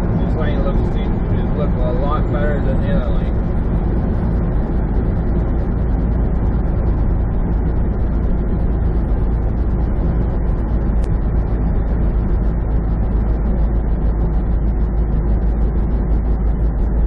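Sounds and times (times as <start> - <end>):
truck engine drone: 0.0 - 17.0
tyre and road noise: 0.0 - 17.0.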